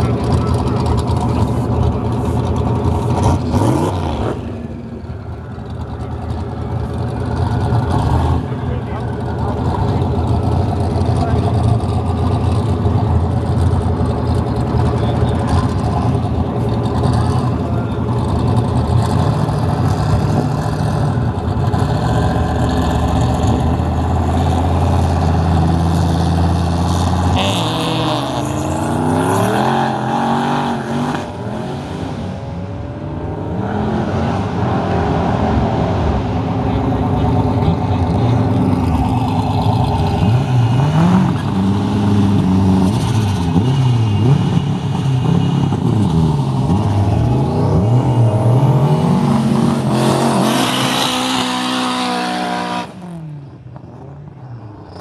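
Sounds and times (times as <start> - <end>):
cars idling: 0.0 - 30.4, 35.3 - 50.5
car engine running nearby: 0.0 - 55.0
cars accelerating at full throttle: 0.0 - 55.0.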